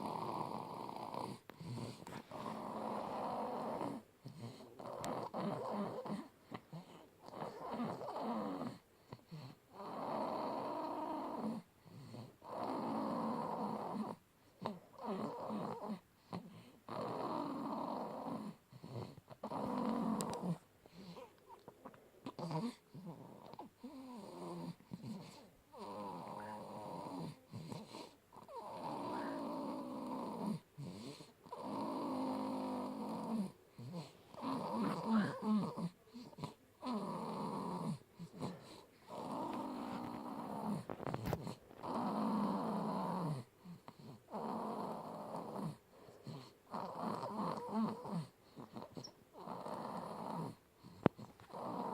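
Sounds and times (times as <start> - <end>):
baby snoring: 0.0 - 51.9.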